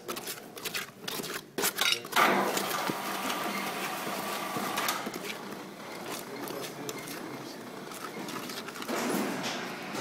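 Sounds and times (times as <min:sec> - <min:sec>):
resin scraping in plastic tub: 0:00.0 - 0:09.2.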